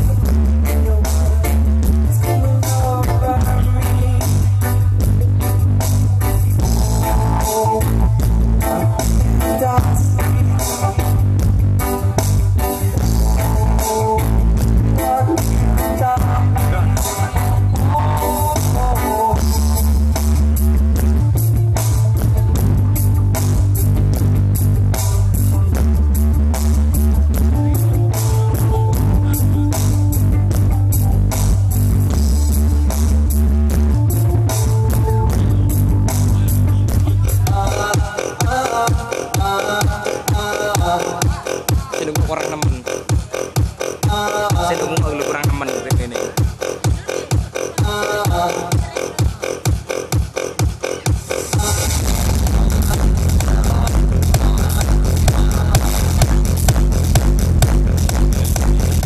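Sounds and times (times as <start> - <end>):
loud music with guitar and bass: 0.0 - 59.0.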